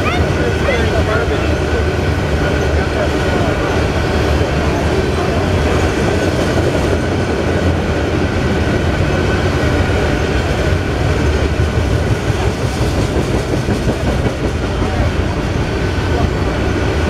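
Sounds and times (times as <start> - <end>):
steel train wheels rumbling on rails: 0.0 - 17.0.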